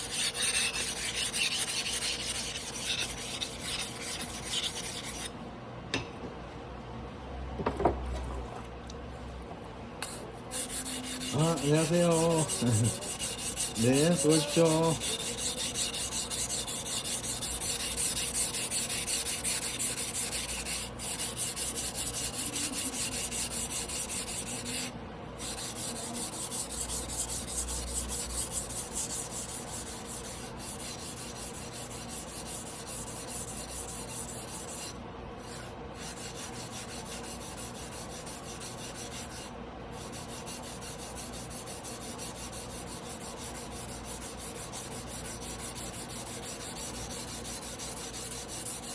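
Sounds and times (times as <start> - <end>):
blade sharpened on whetstone: 0.0 - 5.3, 10.0 - 48.9.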